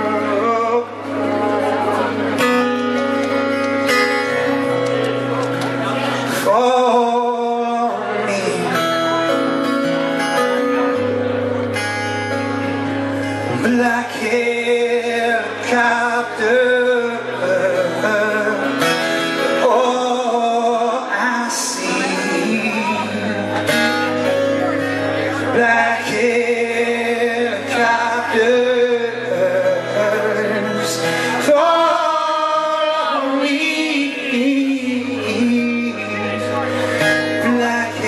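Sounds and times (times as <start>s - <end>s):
man singing: 0.0s - 3.0s, 5.8s - 11.4s, 13.4s - 38.0s
acoustic guitar strumming: 0.0s - 38.0s.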